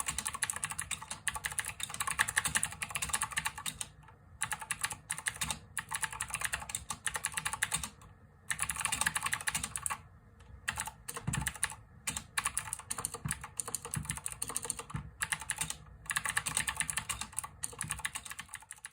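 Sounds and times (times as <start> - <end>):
clicky mechanical keyboard typing: 0.0 - 10.0, 10.6 - 18.9.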